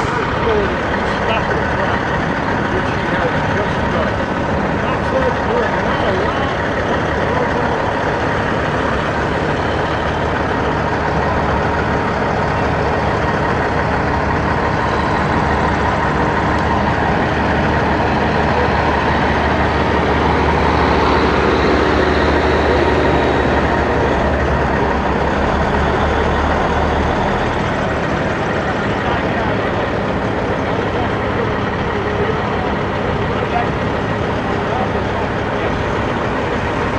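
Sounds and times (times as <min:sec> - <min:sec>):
truck diesel engine droning: 0:00.0 - 0:36.9.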